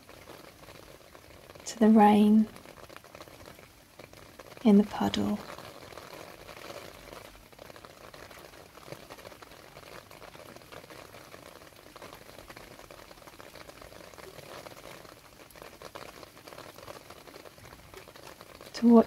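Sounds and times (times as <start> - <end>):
rain splashing into puddle: 0.0 - 19.0.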